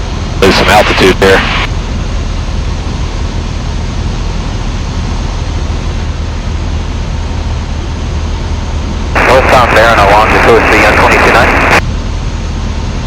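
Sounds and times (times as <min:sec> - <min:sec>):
cabin airflow noise: 0:00.0 - 0:11.8
propeller plane engine droning: 0:00.0 - 0:13.0.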